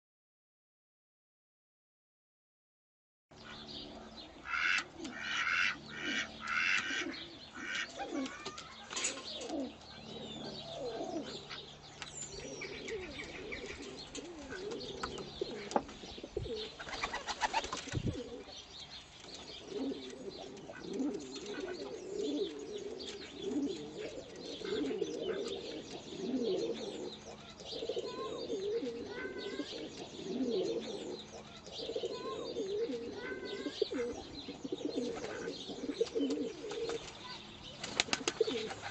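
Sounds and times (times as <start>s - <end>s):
pigeons cooing: 3.4s - 38.9s.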